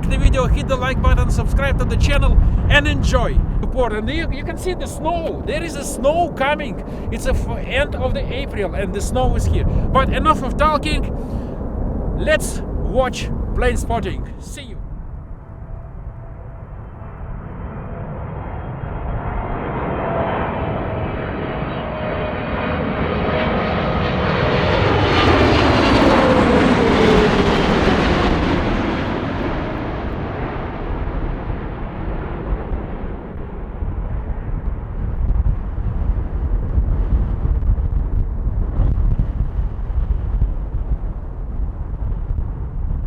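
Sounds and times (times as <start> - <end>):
jet airliner passing: 0.0 - 43.0.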